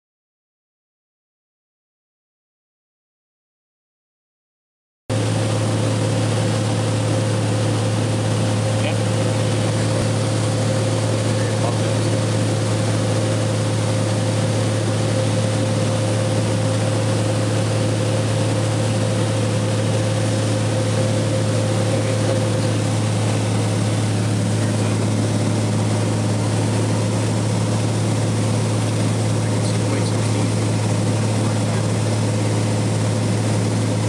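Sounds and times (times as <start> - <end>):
airplane engine droning: 5.1 - 34.0.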